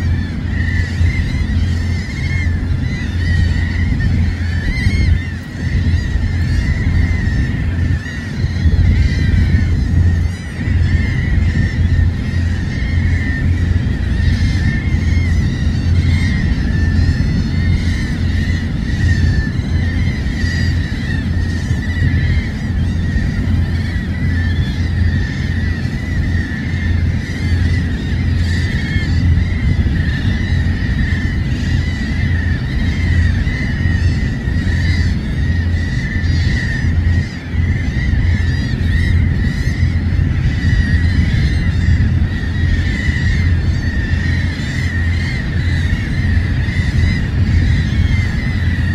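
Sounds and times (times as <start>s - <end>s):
seabirds calling: 0.0s - 48.9s
surf rumbling: 0.0s - 48.9s
wind buffeting microphone: 0.0s - 48.9s.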